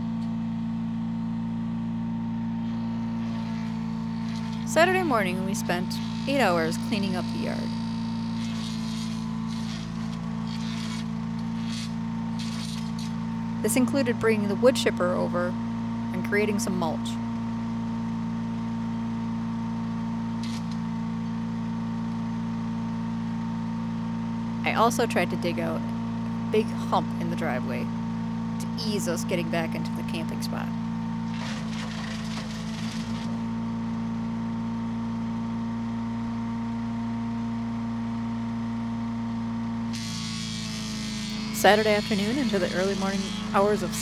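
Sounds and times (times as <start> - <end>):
wood chipper engine running: 0.0 - 44.0.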